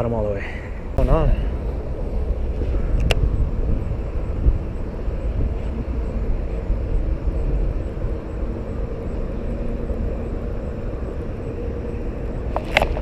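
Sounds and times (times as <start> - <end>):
faint engine drone: 0.0 - 13.0
low outdoor rumble: 0.0 - 13.0.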